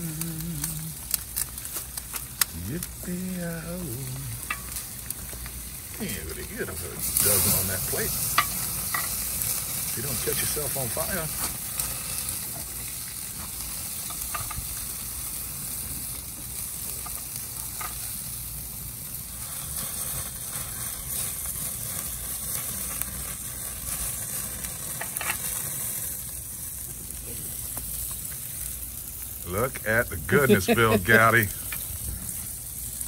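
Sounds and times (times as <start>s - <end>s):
sauce sizzling on grill: 0.0s - 33.0s.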